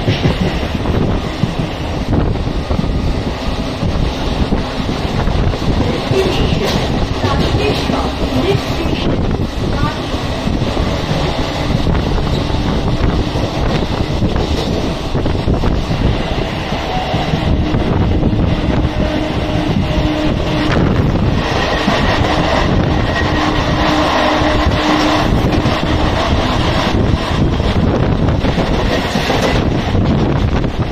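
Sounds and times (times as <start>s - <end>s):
train wheels rumbling on track: 0.0s - 30.9s
wind buffeting microphone: 0.0s - 30.9s.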